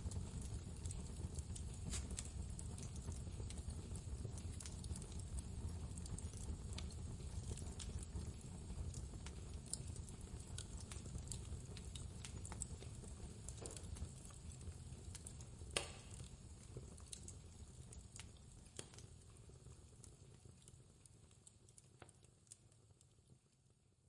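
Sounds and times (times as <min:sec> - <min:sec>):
wood fire crackling and popping: 0:00.0 - 0:23.8.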